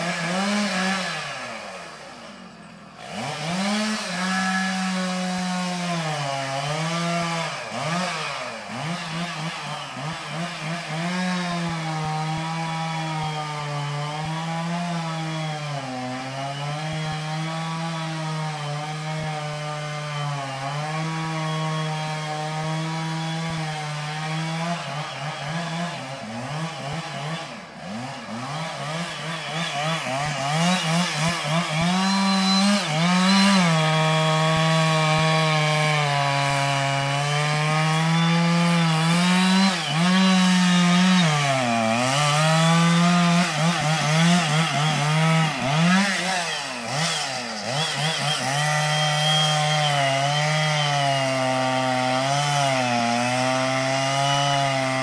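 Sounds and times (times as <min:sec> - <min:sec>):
chainsaw running: 0:00.0 - 0:55.0.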